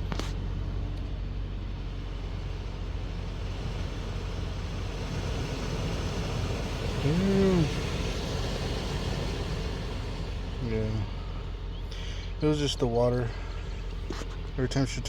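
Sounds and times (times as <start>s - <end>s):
blower motor running: 0.0s - 15.0s
car cabin hum and rush: 0.0s - 15.0s.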